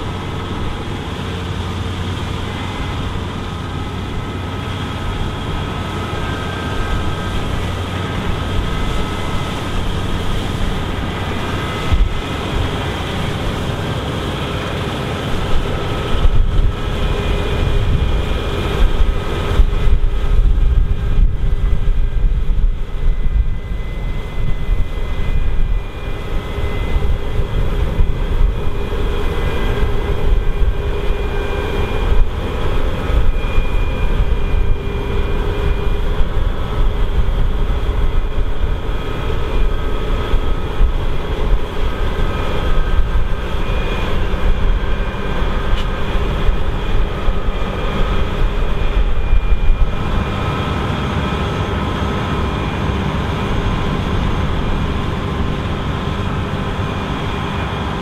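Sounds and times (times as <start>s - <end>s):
combine harvester machine noise: 0.0s - 58.0s
high whining tones: 0.0s - 58.0s.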